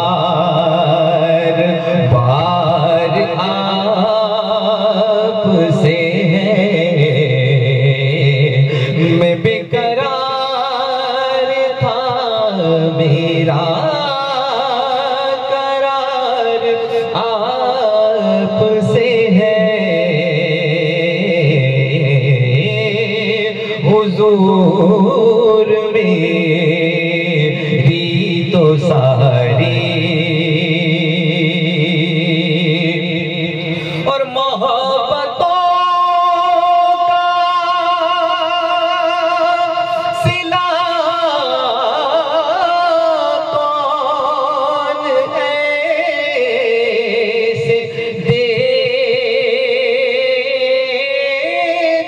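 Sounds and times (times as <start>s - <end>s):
man singing devotional song: 0.0s - 52.0s.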